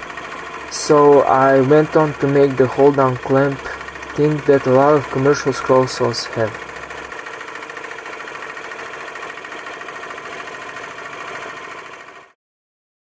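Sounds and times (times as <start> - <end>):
scroll saw cutting wood: 0.0 - 12.4.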